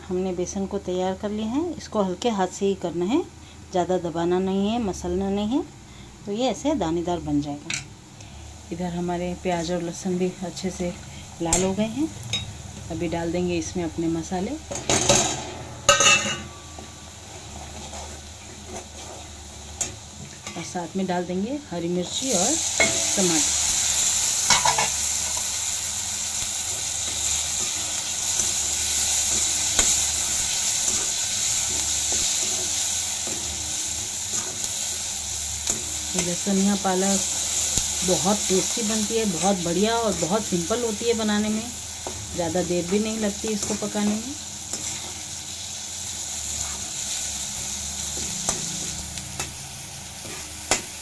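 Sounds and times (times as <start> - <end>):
masala sizzling in hot oil: 0.0 - 51.0.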